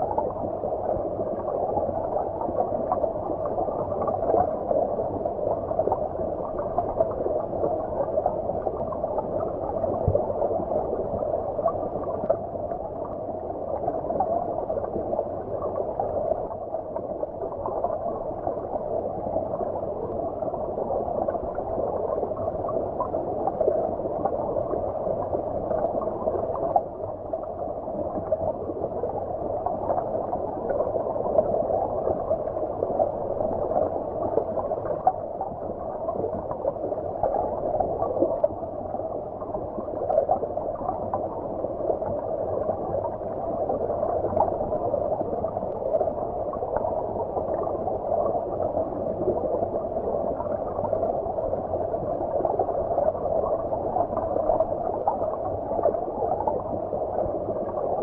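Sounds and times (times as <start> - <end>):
underwater stream gurgling: 0.0 - 58.0.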